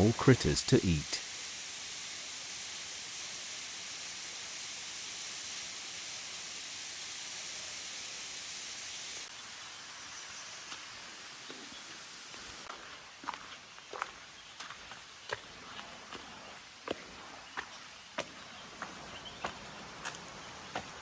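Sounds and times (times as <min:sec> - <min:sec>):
forest ambience hiss: 0:00.0 - 0:21.0.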